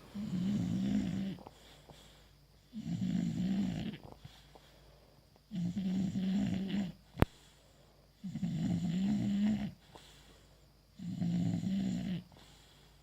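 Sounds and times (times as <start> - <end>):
dog snoring: 0.0 - 4.6, 5.5 - 7.6, 8.2 - 10.2, 10.9 - 12.8.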